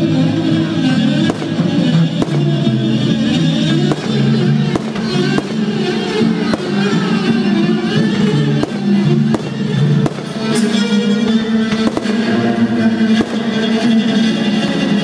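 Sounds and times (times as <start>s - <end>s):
fireworks bangs: 0.3s - 14.8s.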